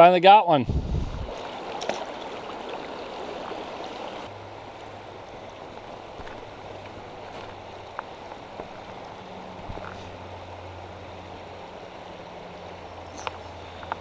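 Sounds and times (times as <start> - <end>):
water rushing over stones: 0.8 - 14.0.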